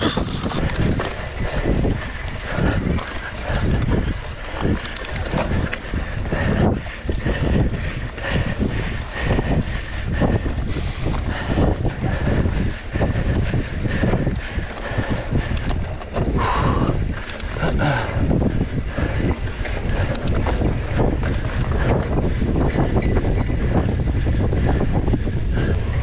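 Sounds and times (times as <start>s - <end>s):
bike rattling on rough trail: 0.0s - 26.0s
wind buffeting microphone: 0.0s - 26.0s.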